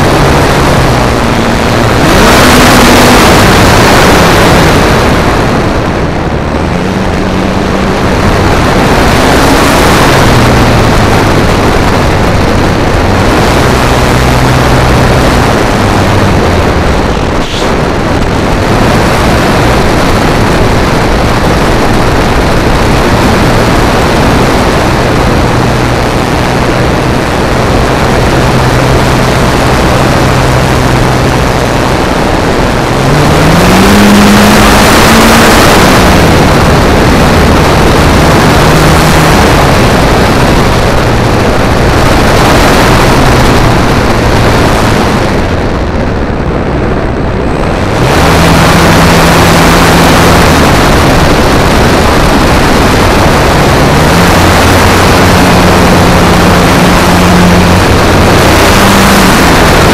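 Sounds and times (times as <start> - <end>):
heavy wind rush: 0.0 - 59.9.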